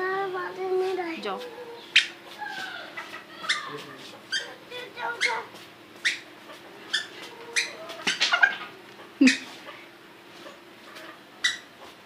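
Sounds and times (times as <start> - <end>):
faint steady hum: 0.0 - 12.0
chicks peeping: 1.4 - 12.0.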